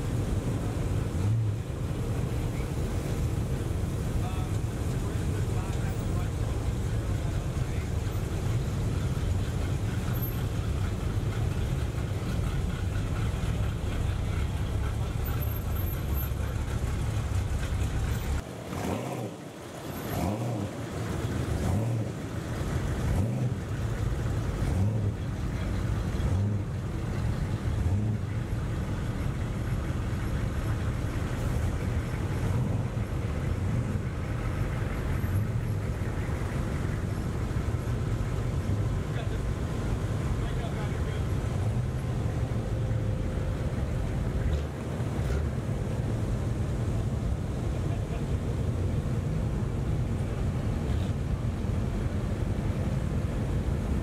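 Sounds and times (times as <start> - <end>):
truck engines rumbling: 0.0 - 54.0.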